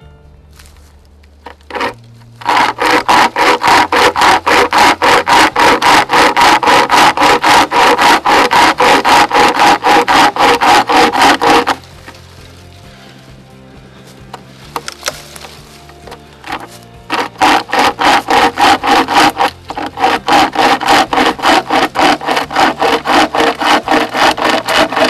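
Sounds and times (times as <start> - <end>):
chain saw rasping through branch: 1.4 - 13.2, 14.3 - 25.0.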